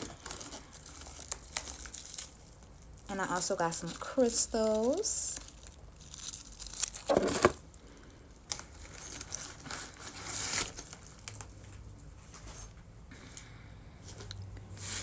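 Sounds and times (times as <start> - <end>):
paper and packaging rustling: 0.0 - 12.7.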